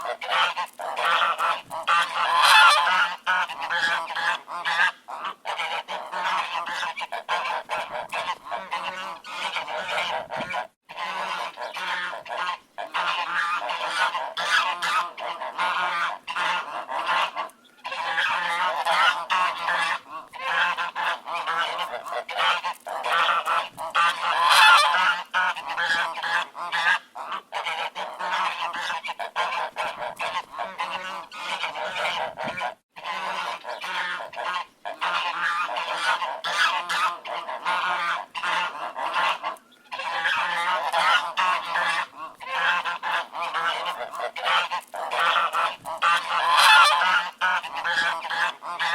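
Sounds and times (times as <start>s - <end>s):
flock of ducks quacking: 0.0s - 48.9s.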